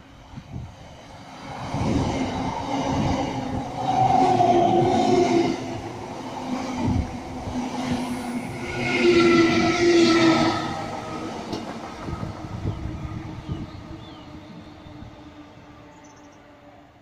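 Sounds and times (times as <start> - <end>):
train passing: 0.0 - 17.0.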